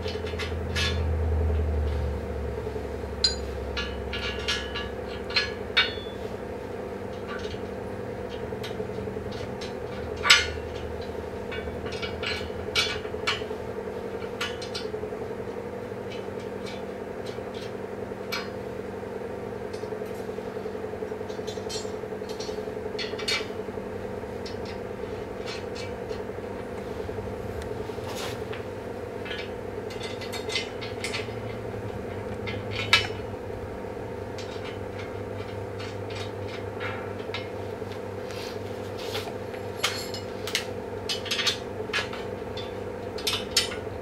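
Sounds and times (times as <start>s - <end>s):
background hum: 0.0s - 44.0s.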